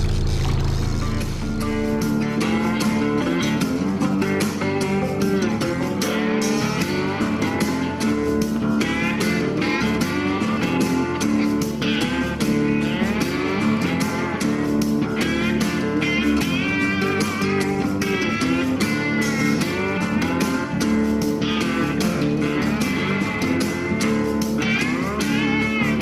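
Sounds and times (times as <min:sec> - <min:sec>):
blues-country music with slide guitar: 0:00.0 - 0:26.0.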